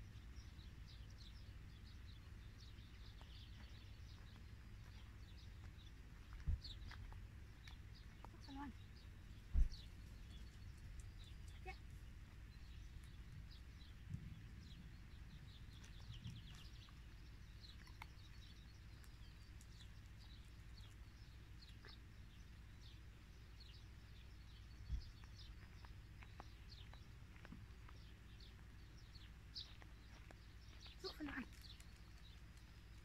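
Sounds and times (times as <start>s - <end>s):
low steady rumble: 0.0s - 33.0s
small birds chirping: 0.0s - 33.0s.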